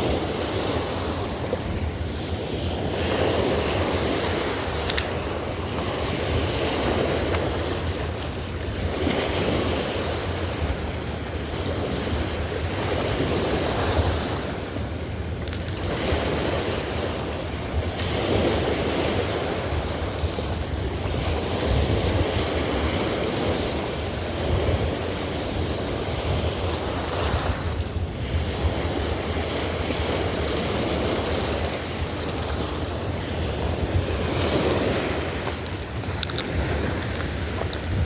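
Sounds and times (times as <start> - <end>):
rough river current rushing: 0.0 - 38.0
wind buffeting microphone: 0.0 - 38.0.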